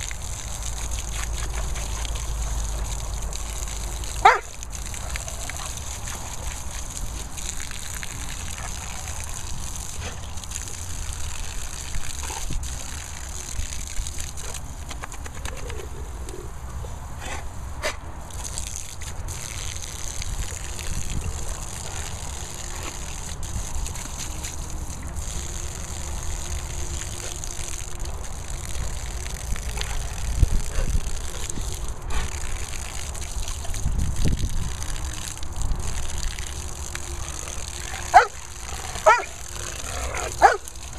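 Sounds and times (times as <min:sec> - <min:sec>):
water splashes: 0:00.0 - 0:15.4, 0:18.1 - 0:40.9
hose water spattering on grass: 0:00.0 - 0:16.4, 0:18.2 - 0:40.9.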